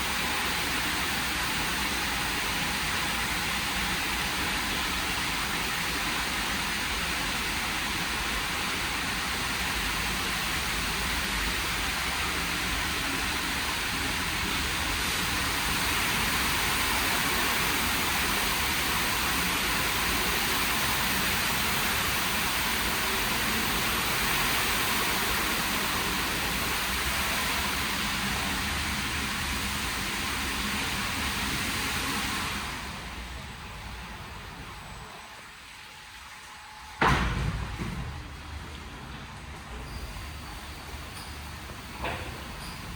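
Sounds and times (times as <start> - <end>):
car wash water spraying: 0.0 - 36.4.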